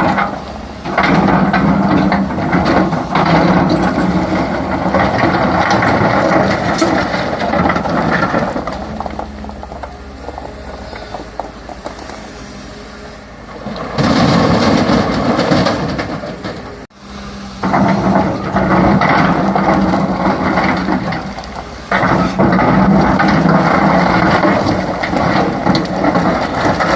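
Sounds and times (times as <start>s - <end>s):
excavator engine and hydraulics: 0.0s - 26.9s.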